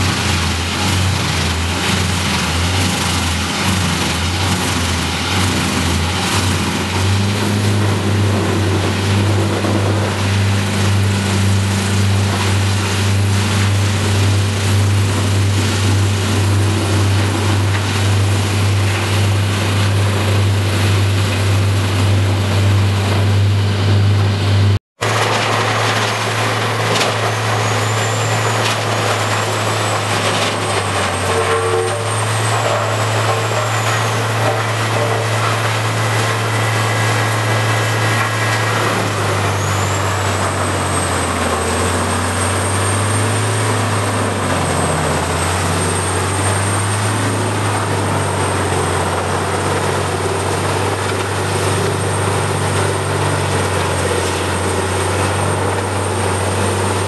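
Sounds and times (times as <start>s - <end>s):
grinder diesel engine droning: 0.0s - 57.0s
high whine: 3.2s - 57.0s.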